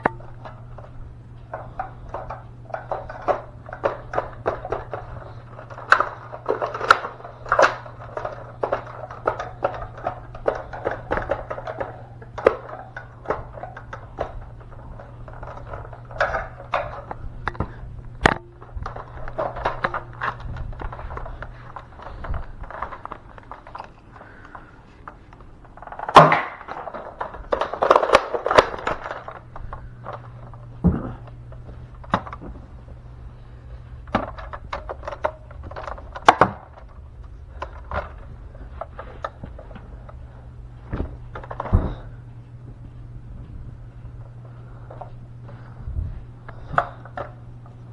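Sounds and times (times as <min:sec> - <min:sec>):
rattling: 0:00.0 - 0:42.3
faint low hum: 0:00.0 - 0:47.9
objects and plastic handled: 0:00.0 - 0:47.9.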